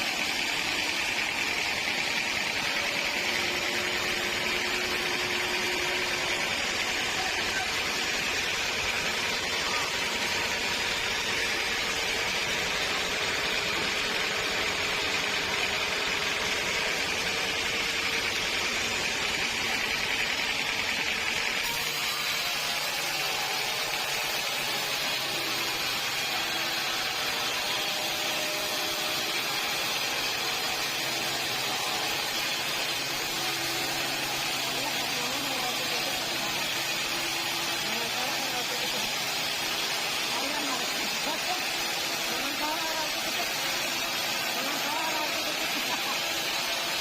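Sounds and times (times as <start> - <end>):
sawmill machinery running: 0.0 - 47.0.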